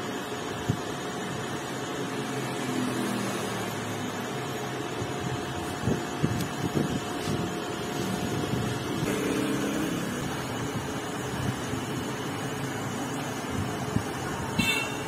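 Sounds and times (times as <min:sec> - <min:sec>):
faint motor whine: 0:00.0 - 0:15.0
machine motor humming: 0:01.9 - 0:14.3.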